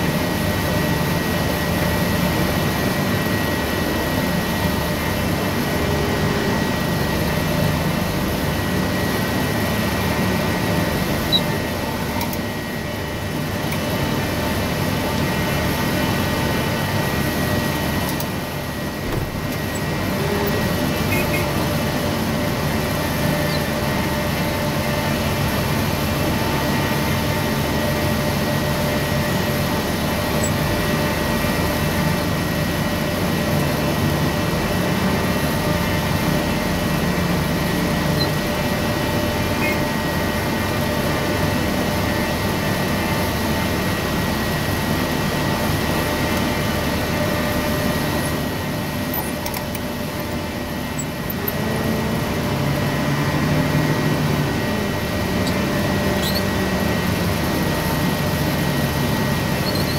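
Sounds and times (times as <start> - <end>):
loader engine running: 0.0 - 59.9
steady whine: 0.0 - 59.9.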